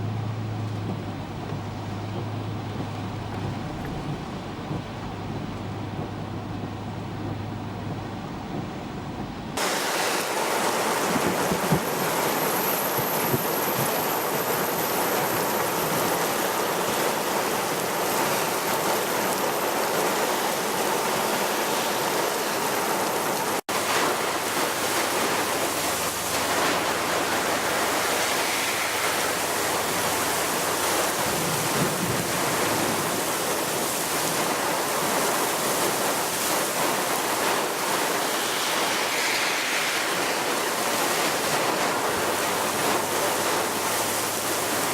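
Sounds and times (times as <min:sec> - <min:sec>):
heavy rain rushing: 0:00.0 - 0:44.9.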